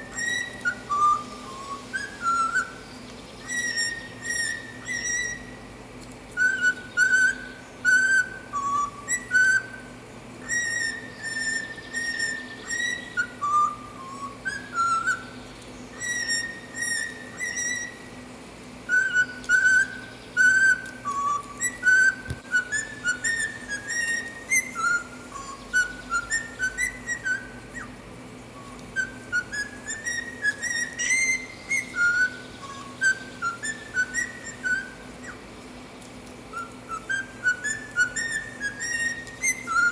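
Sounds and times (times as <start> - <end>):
cockatiel whistling a tune: 0.0 - 5.6, 6.3 - 18.2, 18.9 - 28.0, 28.6 - 35.4, 36.5 - 39.9.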